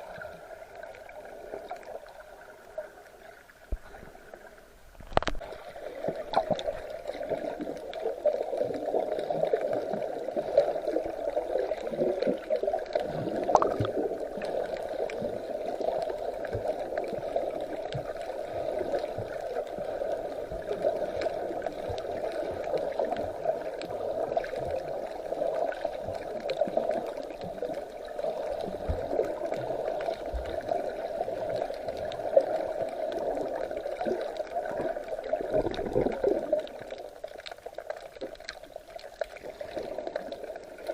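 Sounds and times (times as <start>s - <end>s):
small crackles: 0.0s - 40.9s
water gurgling and sloshing: 0.0s - 40.9s.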